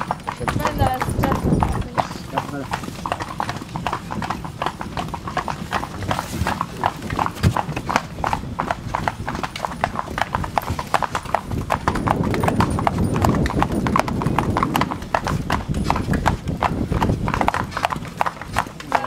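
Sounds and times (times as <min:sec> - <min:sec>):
horse hooves clip-clopping on asphalt: 0:00.0 - 0:19.0.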